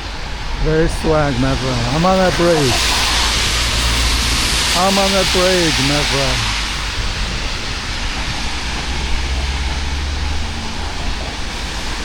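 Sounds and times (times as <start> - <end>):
rain hiss: 0.0 - 12.0
street traffic: 0.0 - 12.0
vehicle passing rumble: 0.0 - 12.0.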